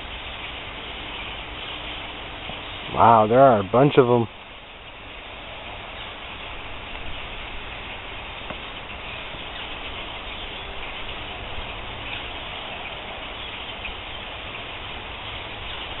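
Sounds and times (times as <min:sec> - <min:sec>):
flock of small birds chattering: 0:00.0 - 0:16.0.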